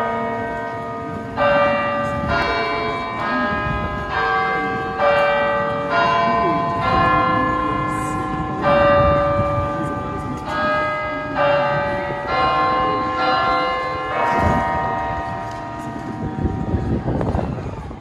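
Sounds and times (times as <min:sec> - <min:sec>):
synthesized church bell strikes: 0:00.0 - 0:16.9.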